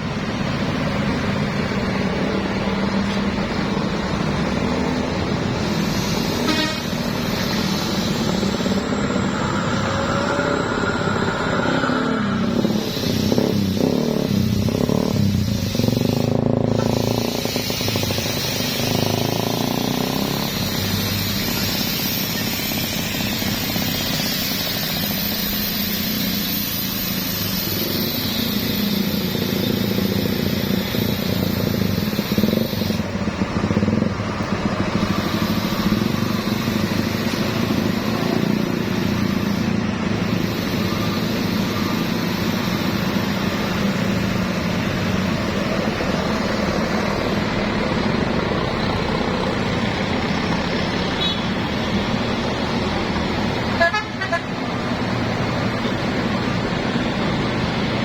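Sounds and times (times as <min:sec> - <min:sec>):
road noise: 0:00.0 - 0:58.0
vehicle engine noise: 0:00.0 - 0:58.0.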